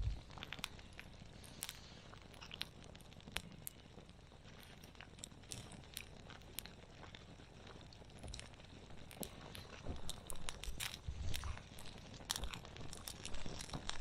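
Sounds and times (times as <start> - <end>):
campfire crackling: 0.0 - 14.0
sharp pops of burning wood: 0.0 - 14.0.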